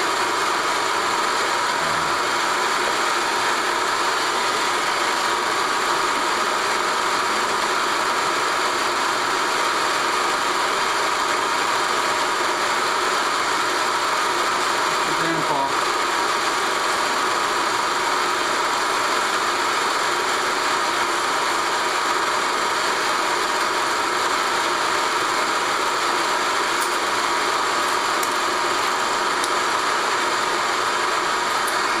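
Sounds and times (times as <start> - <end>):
film projector running: 0.0 - 32.0.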